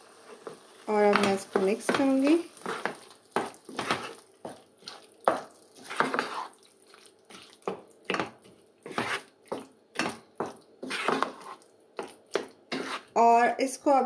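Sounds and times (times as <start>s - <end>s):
spatula scraping mash in a pan: 0.2s - 13.2s.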